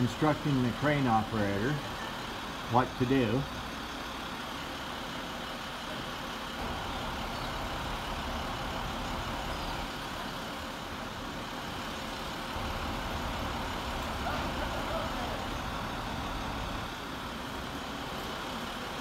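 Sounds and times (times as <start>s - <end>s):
crane engine running: 0.0s - 19.0s.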